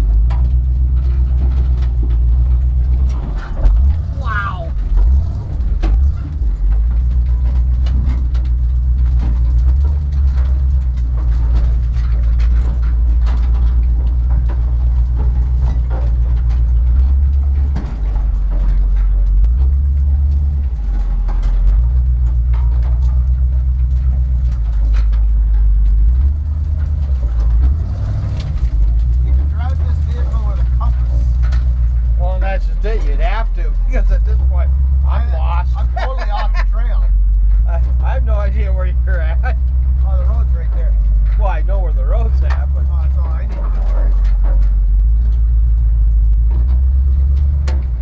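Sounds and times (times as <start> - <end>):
body knocks and rattles: 0.0 - 48.0
truck engine rumbling: 0.0 - 48.0.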